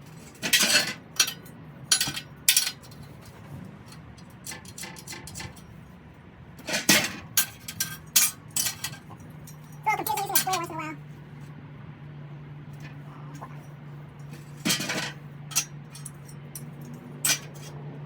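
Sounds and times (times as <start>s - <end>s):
scrap steel clanking: 0.2s - 5.8s, 6.6s - 10.9s, 12.7s - 17.8s.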